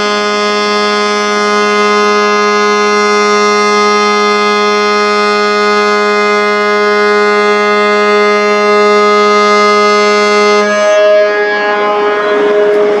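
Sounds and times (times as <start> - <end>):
ship horn blast: 0.0 - 13.0.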